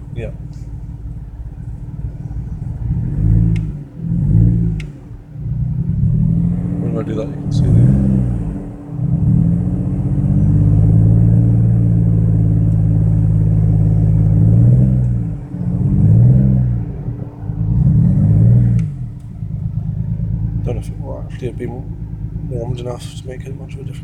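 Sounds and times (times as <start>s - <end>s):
misfiring car engine revving: 0.0s - 24.0s.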